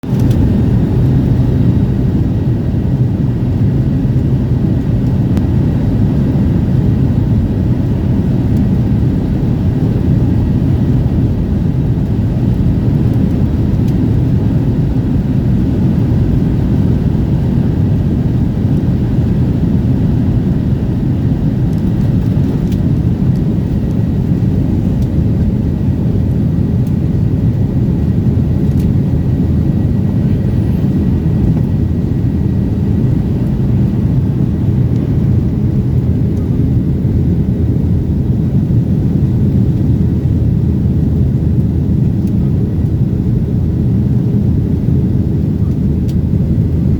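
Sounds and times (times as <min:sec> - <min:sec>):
faint steady whine: 0:00.0 - 0:46.9
jet cabin low rumble: 0:00.0 - 0:46.9.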